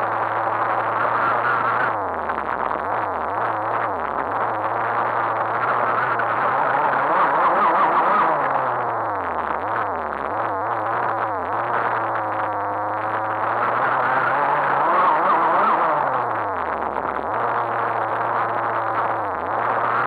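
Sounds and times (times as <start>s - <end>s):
rc car motor whining: 0.0s - 20.0s.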